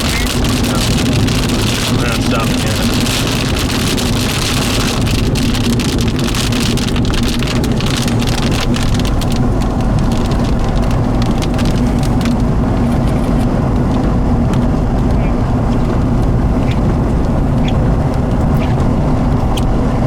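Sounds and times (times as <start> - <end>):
rain pattering on car roof: 0.0 - 20.0
road and engine rumble: 0.0 - 20.0.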